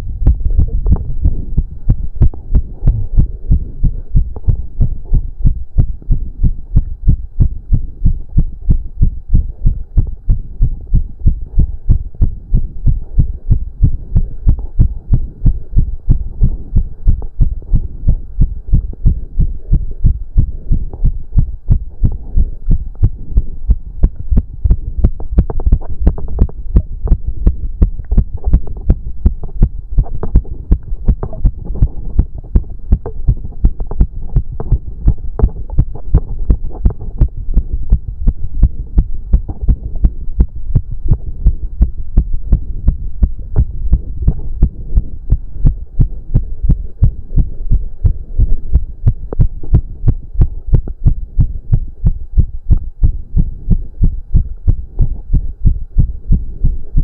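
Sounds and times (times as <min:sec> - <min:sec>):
heart beating fast: 0:00.0 - 0:57.0.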